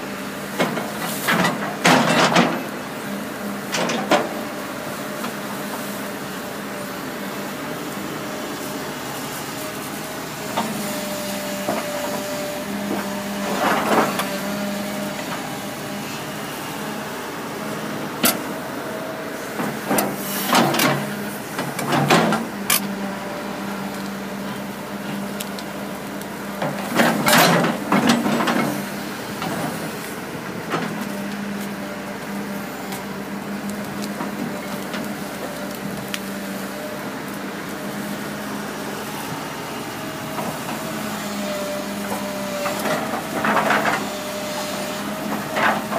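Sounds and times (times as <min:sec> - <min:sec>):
excavator diesel engine running: 0:00.0 - 0:45.9
hydraulic hissing and clanking: 0:07.8 - 0:45.9.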